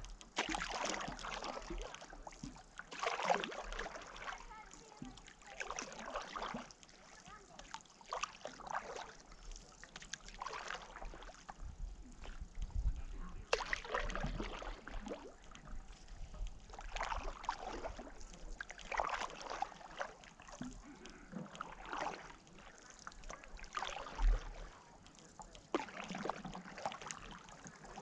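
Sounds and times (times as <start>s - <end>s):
paddle strokes in water: 0.0s - 28.0s.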